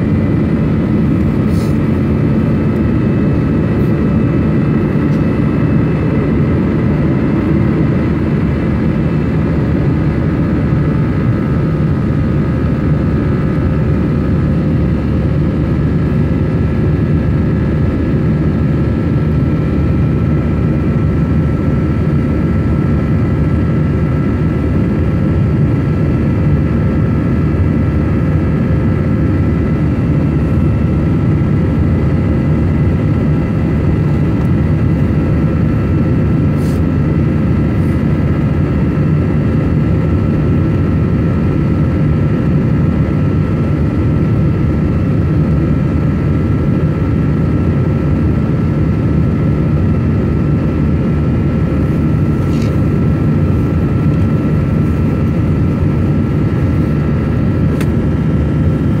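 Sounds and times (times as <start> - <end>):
jet engine roar and airflow: 0.0 - 59.0.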